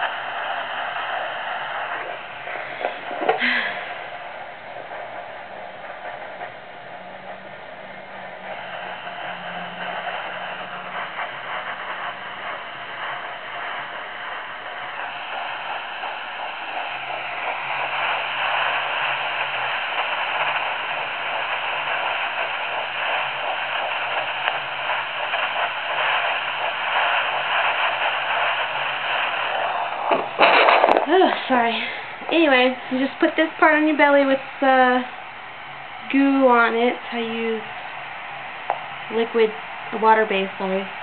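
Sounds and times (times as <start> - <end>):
doppler speaker static hiss: 0.0 - 41.0
faint heartbeat whooshing: 0.0 - 41.0.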